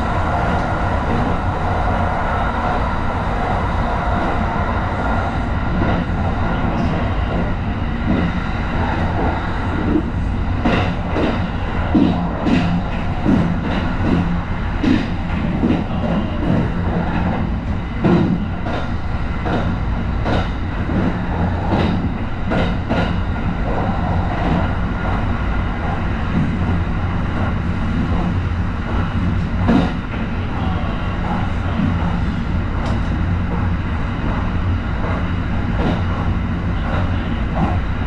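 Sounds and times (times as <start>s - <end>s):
train rumbling: 0.0s - 38.0s.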